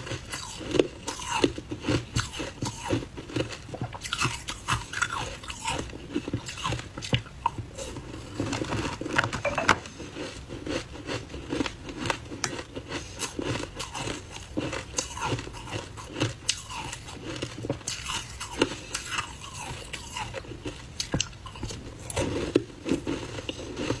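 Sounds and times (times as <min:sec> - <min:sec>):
ice crunching between teeth: 0:00.0 - 0:09.4, 0:10.1 - 0:24.0.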